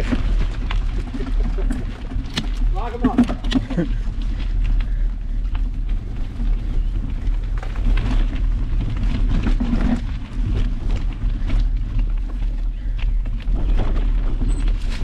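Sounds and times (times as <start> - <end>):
tyres crackling over dirt and stones: 0.0 - 15.0
wind and ride vibration rumble: 0.0 - 15.0.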